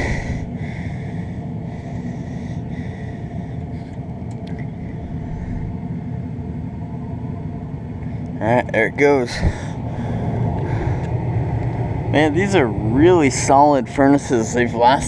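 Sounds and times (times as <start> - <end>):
gas furnace rumbling: 0.0 - 15.0.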